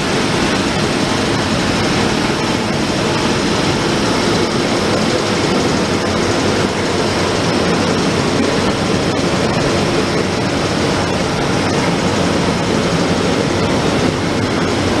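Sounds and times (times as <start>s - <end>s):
locomotive cooling blowers whirring: 0.0s - 15.0s.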